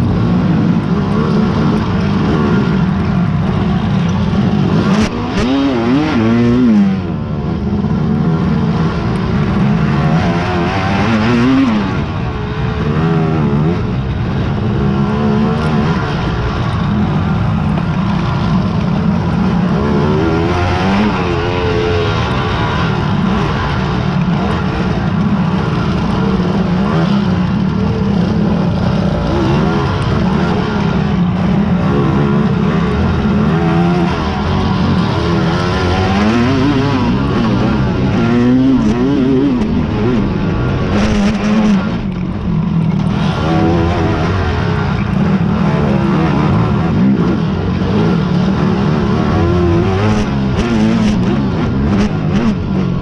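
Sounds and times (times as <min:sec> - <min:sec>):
quad engines revving: 0:00.0 - 0:53.0.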